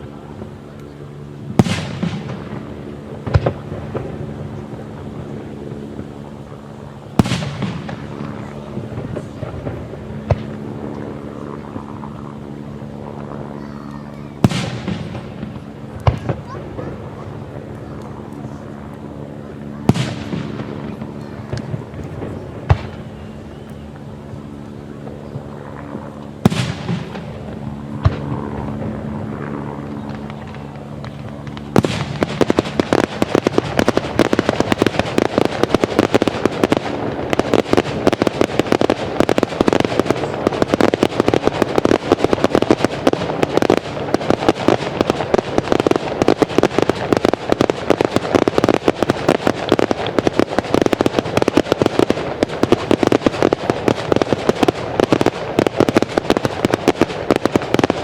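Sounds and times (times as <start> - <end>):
low steady hum: 0.0 - 58.0
firework bangs: 1.4 - 10.8, 13.9 - 18.5, 19.8 - 58.0
rapid crackling firework bangs: 1.4 - 11.1, 11.7 - 18.7, 19.5 - 58.0.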